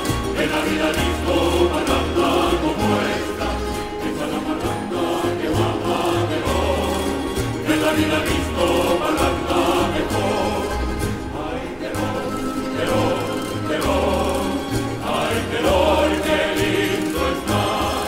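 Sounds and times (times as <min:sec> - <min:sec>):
choir singing with instruments: 0:00.0 - 0:18.0.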